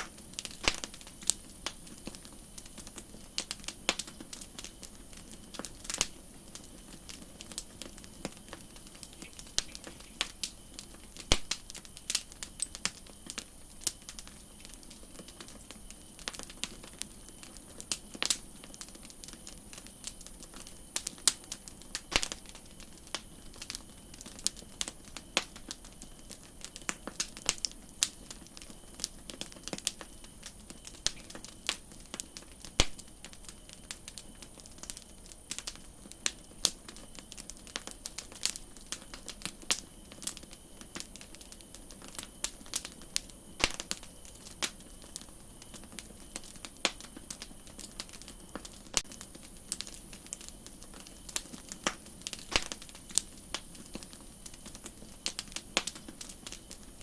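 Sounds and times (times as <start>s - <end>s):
campfire crackling and popping: 0.0s - 57.0s
soft steady hiss: 0.0s - 57.0s.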